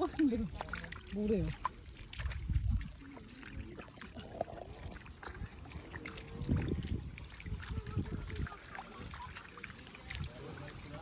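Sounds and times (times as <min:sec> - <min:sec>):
footsteps splashing in water: 0:00.0 - 0:11.0
water splashing and trickling: 0:00.0 - 0:11.0.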